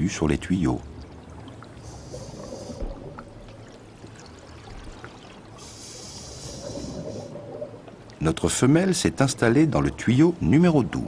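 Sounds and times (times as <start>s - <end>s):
water trickling and bubbling: 0.0s - 10.5s
faint steady hum: 0.0s - 11.0s.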